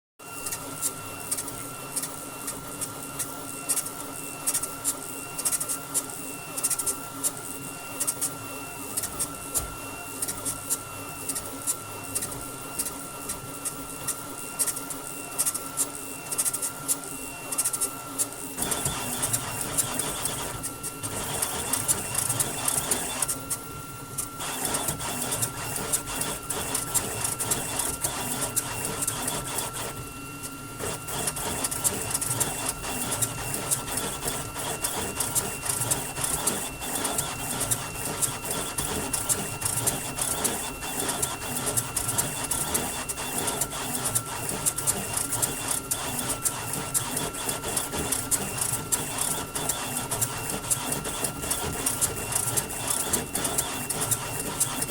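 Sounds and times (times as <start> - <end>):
printer head whirring and clicking: 0.3 - 54.9.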